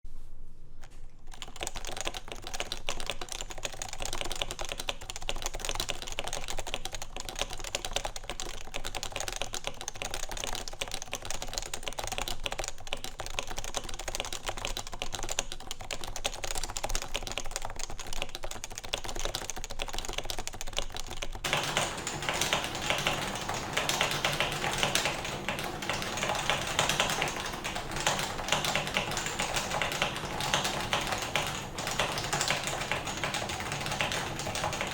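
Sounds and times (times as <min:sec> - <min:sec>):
typing on a keyboard: 0:01.3 - 0:34.9.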